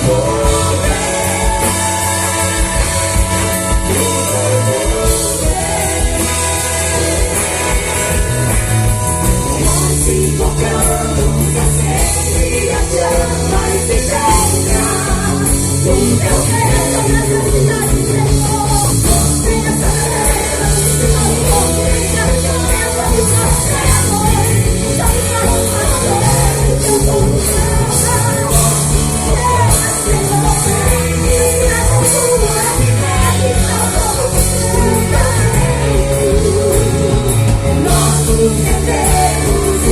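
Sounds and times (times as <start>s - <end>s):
person singing: 0.0s - 8.3s, 9.3s - 39.9s
rock band playing: 0.0s - 39.9s.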